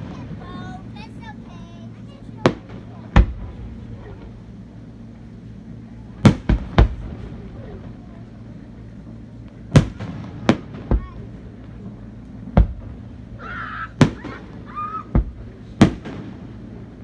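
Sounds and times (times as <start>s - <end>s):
fireworks bangs: 0.0s - 4.6s, 6.0s - 17.0s.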